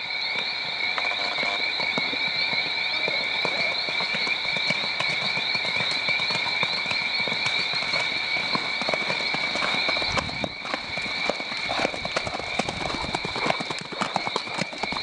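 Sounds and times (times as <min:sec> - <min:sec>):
horse hoofbeats on sand: 0:01.1 - 0:15.0.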